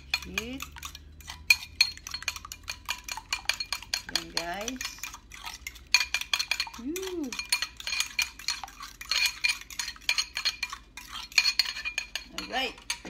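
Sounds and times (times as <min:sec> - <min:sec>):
fork clinking against ceramic bowl: 0:00.0 - 0:13.0.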